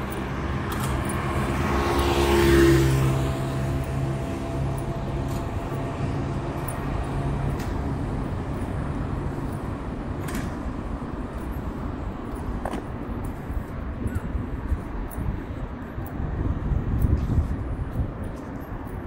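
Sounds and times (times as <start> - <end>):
road noise: 0.0 - 19.0
vehicle engine hum: 0.0 - 19.0.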